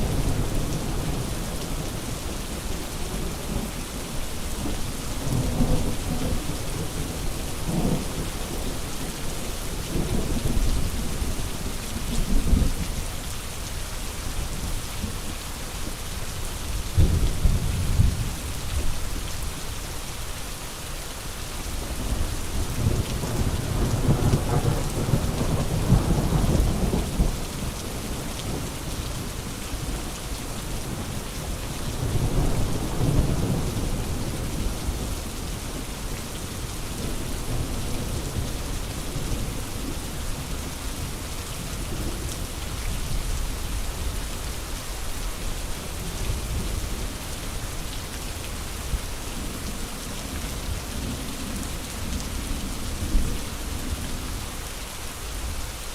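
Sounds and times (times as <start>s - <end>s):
steady rain hissing: 0.0s - 55.9s.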